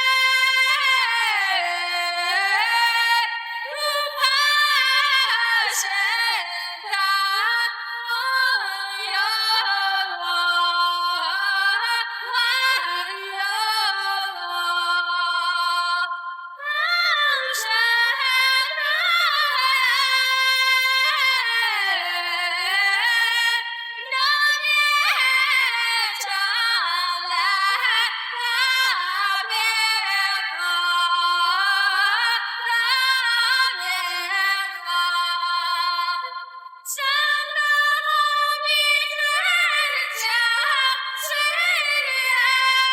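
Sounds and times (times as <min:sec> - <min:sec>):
woman singing: 0:00.0 - 0:42.9.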